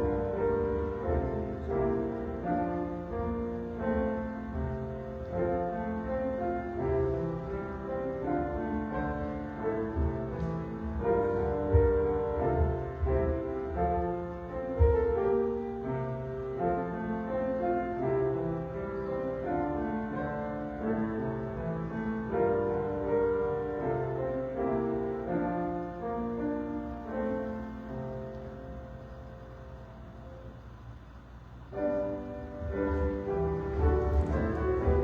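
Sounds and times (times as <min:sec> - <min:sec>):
slow quiet piano chords: 0:00.0 - 0:35.0.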